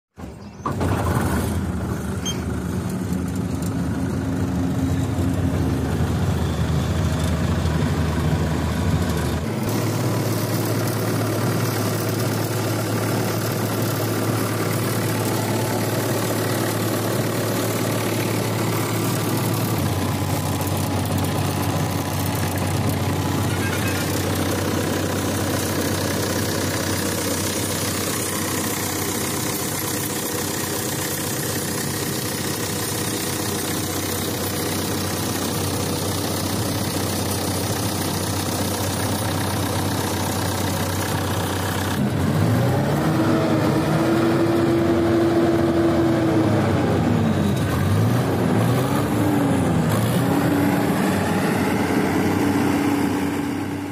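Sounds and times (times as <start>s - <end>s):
diesel engine running: 0.2s - 53.9s.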